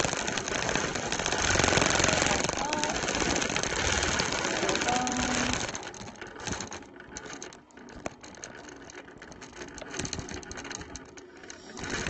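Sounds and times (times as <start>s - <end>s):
quilting machine needle clicks: 0.0s - 12.0s.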